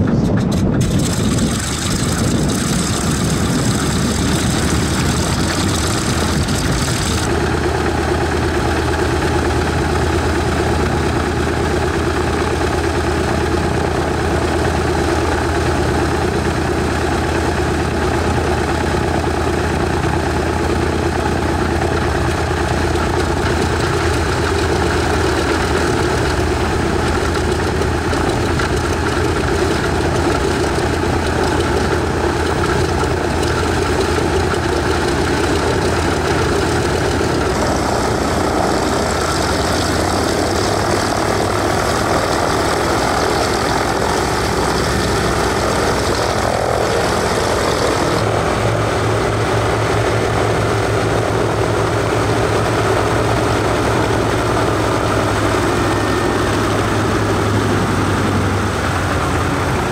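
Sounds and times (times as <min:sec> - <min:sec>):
radial aircraft engines idling: 0:00.0 - 0:59.9.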